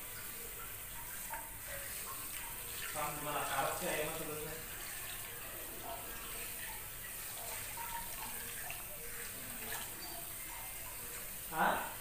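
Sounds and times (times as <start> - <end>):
shower sprayer water running: 0.0 - 12.0.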